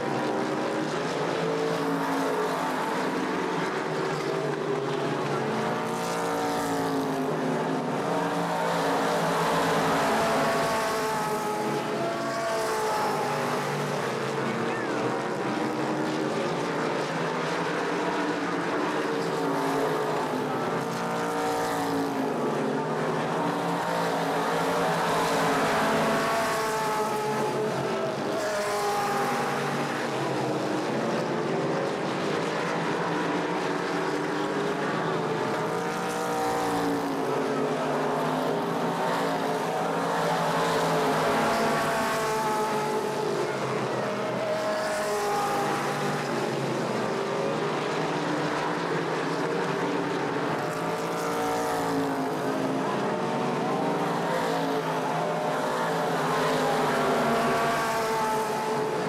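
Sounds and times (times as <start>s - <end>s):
stock car engines racing: 0.0s - 59.0s.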